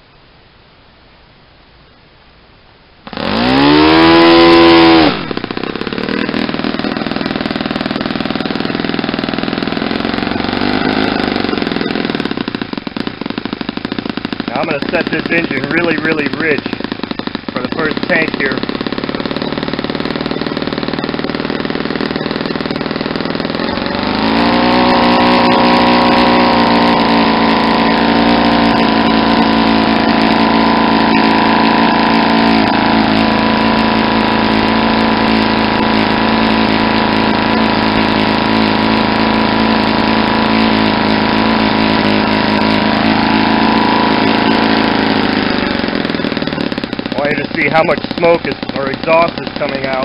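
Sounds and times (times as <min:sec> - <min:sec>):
model engine blubbering: 0:03.0 - 0:50.0.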